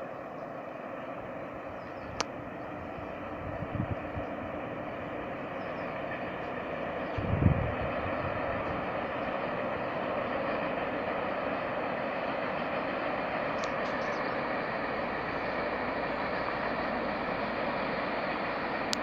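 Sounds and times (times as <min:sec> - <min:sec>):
distant freight train rumbling: 0:00.0 - 0:19.0.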